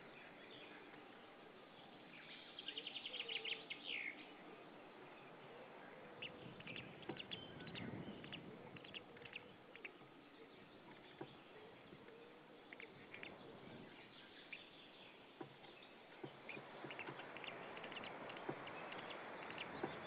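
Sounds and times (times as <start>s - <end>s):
bird chirps: 1.7s - 20.0s.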